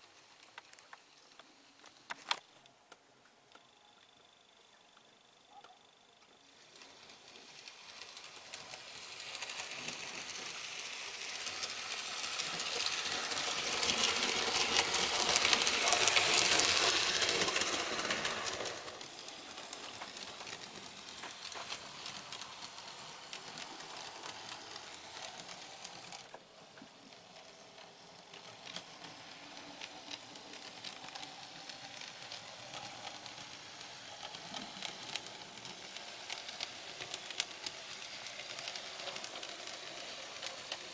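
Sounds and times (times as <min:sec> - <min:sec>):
model train motor whirring: 0:06.3 - 0:40.9
wheels ticking on rails: 0:06.5 - 0:40.9.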